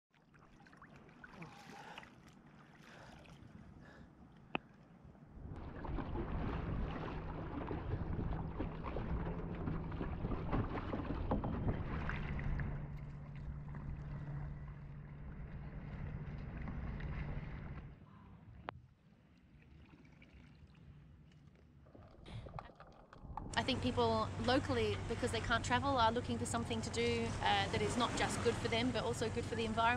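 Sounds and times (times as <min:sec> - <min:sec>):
water splashing and lapping: 0:00.1 - 0:18.0, 0:19.0 - 0:29.9
low steady hum: 0:01.2 - 0:29.9.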